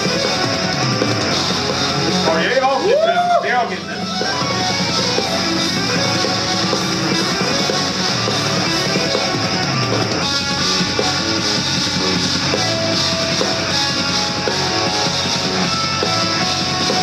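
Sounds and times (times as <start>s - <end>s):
drums: 0.0s - 17.0s
electric guitar riffing: 0.0s - 17.0s.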